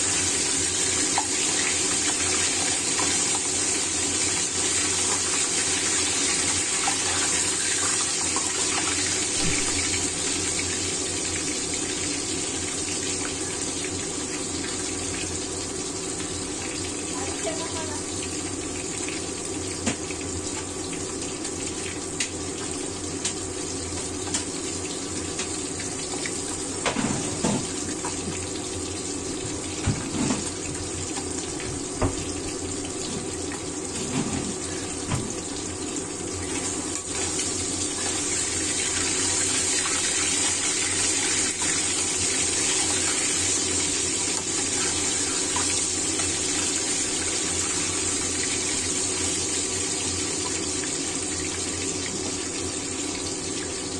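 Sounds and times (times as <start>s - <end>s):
fish sizzling in hot oil: 0.0s - 53.9s.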